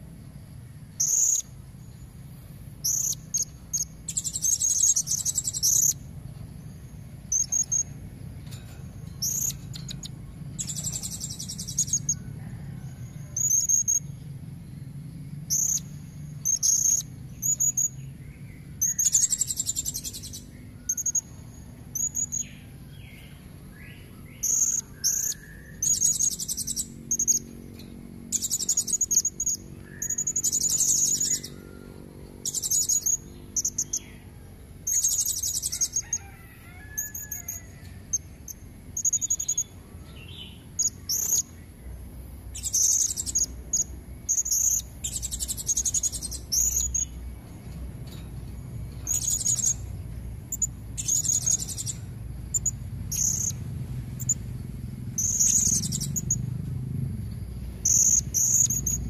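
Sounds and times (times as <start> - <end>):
parrot chirping trills: 0.8 - 2.2, 2.8 - 14.2, 15.4 - 41.6, 42.4 - 56.6, 57.7 - 59.0.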